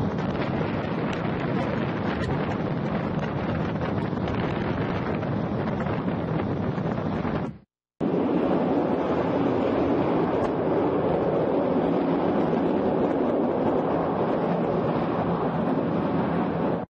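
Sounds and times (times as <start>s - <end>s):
roar of gas jet burning: 0.0s - 16.9s.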